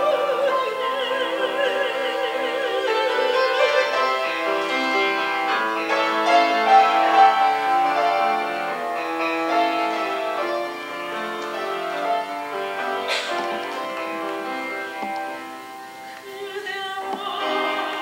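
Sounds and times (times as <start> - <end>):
grand piano solo: 0.0 - 18.0.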